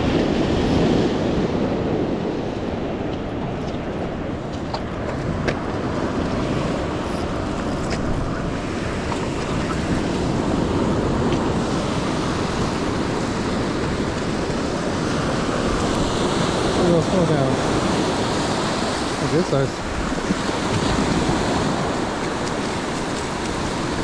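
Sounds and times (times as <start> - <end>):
ocean surf washing onto beach: 0.0 - 24.0
wind noise on microphone: 0.0 - 24.0.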